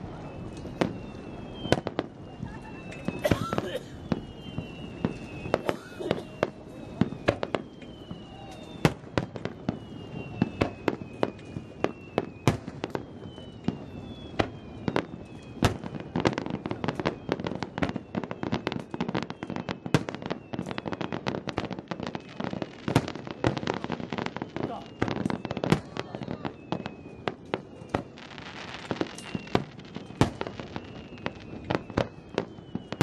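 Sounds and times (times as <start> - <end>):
fireworks bangs: 0.0 - 33.0
fireworks crackling: 0.0 - 33.0
fireworks whistling: 0.0 - 33.0.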